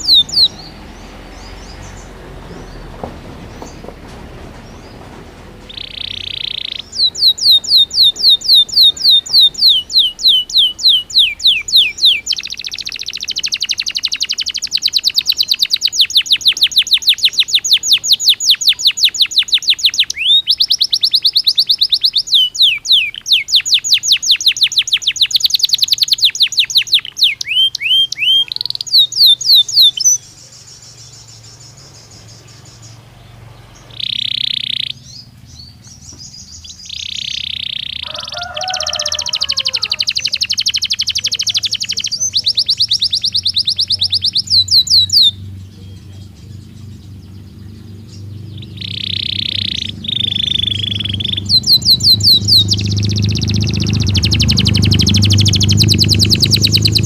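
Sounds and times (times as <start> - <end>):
bird call: 0.0 - 2.9, 5.6 - 57.0
canary singing trills: 0.0 - 57.0.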